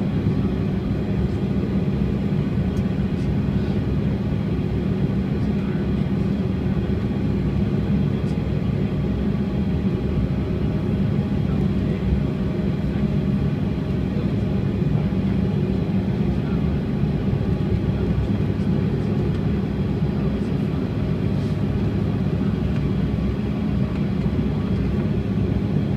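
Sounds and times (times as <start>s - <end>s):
jet engines droning in cabin: 0.0s - 25.9s.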